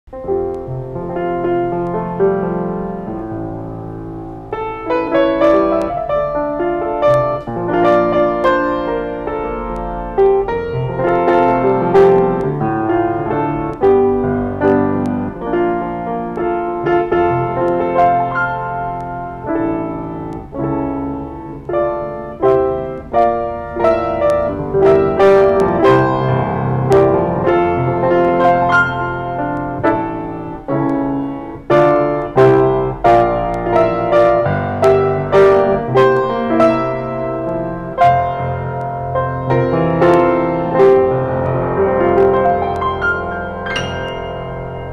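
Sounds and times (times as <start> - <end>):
grand piano chords and melody: 0.1 - 44.9.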